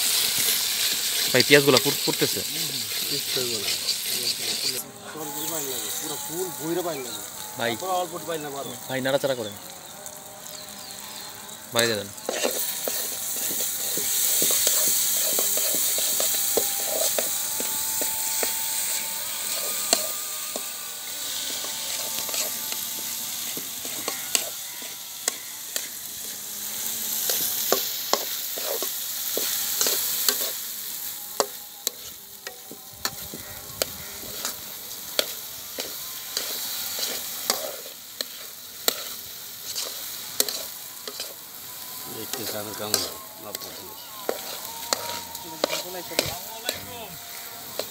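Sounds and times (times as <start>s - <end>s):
metal spatula scraping a pan: 0.0s - 7.1s, 11.0s - 47.9s
rice and lentils sizzling in oil: 0.0s - 47.9s.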